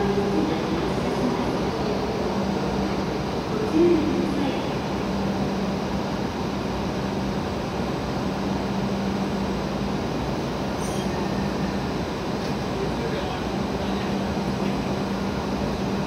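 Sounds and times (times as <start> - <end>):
idling trains humming: 0.0 - 16.0.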